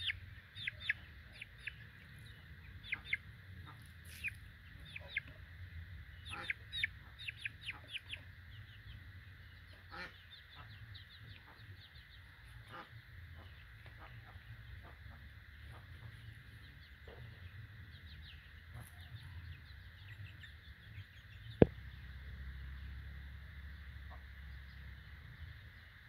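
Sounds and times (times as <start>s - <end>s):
chick peeping: 0.0s - 5.4s, 6.1s - 21.8s.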